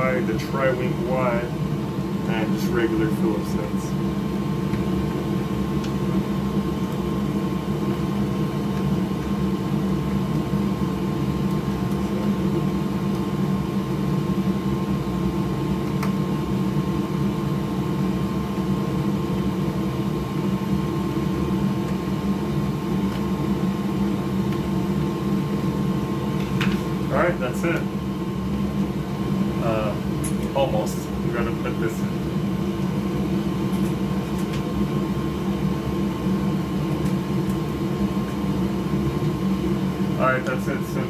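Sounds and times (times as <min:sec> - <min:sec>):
electric fan whirring: 0:00.0 - 0:41.0.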